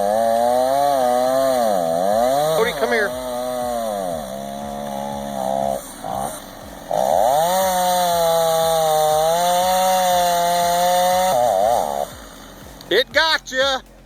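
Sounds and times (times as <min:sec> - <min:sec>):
chainsaw revving: 0:00.0 - 0:14.0.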